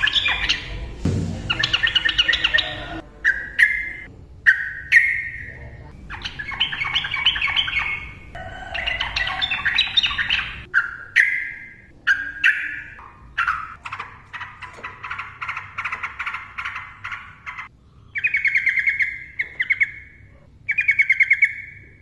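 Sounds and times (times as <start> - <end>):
bird fast chattering notes: 0.0 - 21.9
bird harsh calls: 0.0 - 22.0.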